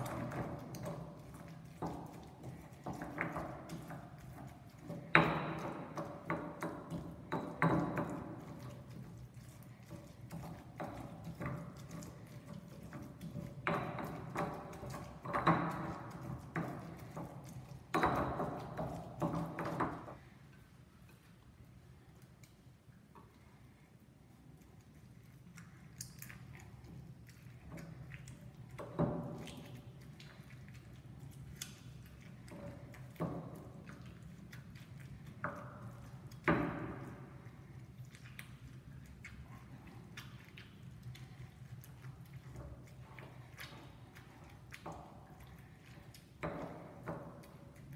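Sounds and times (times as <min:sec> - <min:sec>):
soft wet crushing: 0:00.0 - 0:47.9.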